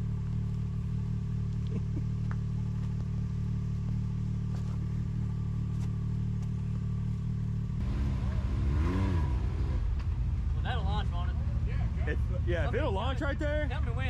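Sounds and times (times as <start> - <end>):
engine idling: 0.0 - 8.6, 9.8 - 14.0.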